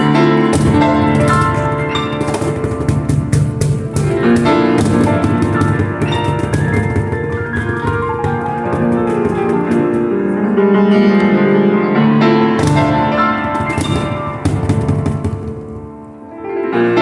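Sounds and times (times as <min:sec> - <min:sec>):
hand drum hits: 0:00.0 - 0:10.4, 0:12.6 - 0:16.2
piano chords: 0:00.0 - 0:17.0.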